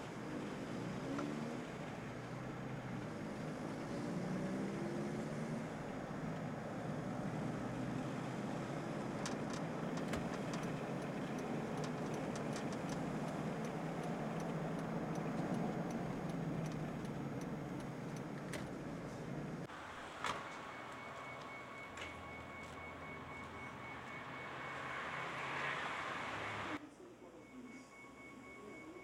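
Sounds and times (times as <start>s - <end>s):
car road and engine noise: 0.0s - 26.9s.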